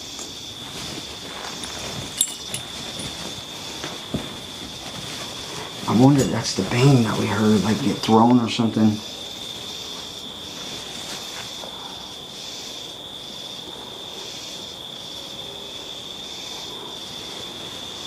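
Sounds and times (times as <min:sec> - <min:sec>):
insects trilling: 0:00.0 - 0:18.0
pulsing insect chorus: 0:00.0 - 0:18.0.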